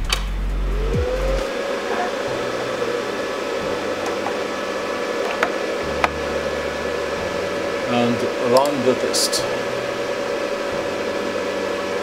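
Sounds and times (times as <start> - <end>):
electric fan whirring: 0.0 - 12.0.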